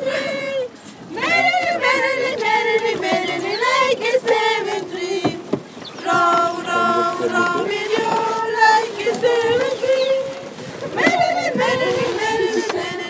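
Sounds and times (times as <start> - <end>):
women and girls singing in unison: 0.0 - 13.0.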